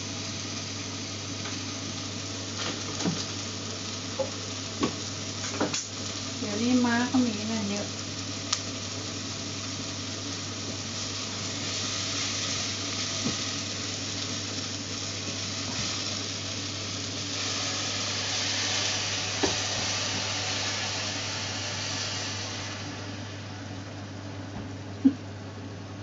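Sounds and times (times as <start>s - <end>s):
food sizzling in a pan: 0.0s - 25.6s.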